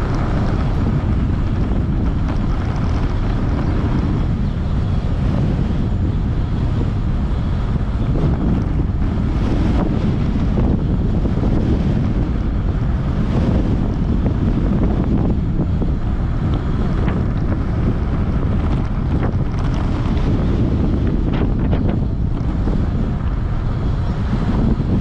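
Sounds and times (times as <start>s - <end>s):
wind buffeting the microphone: 0.0s - 25.0s.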